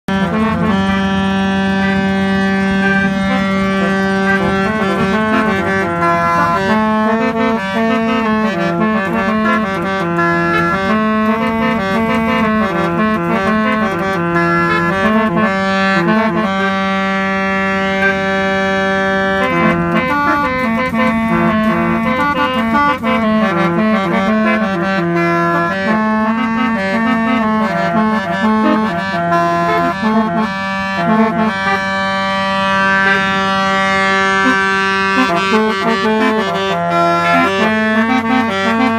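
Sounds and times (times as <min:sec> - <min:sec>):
musical car horn playing a tune: 0:00.1 - 0:38.9.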